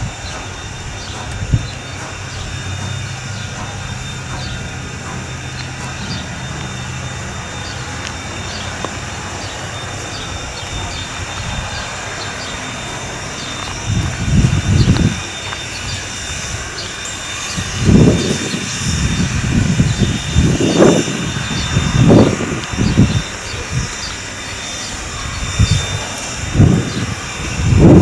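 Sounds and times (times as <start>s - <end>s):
steam locomotive rumble: 0.0s - 28.0s.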